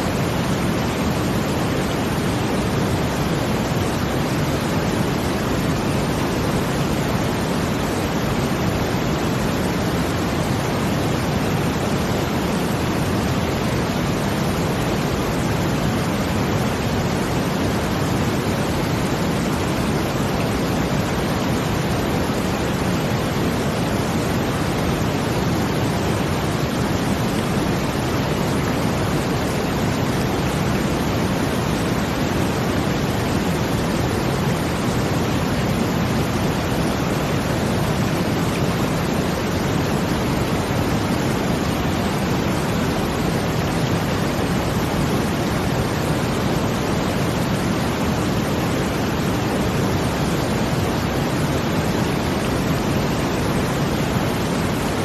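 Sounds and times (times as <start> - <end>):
brown noise: 0.0 - 55.0
water rushing: 0.0 - 55.0.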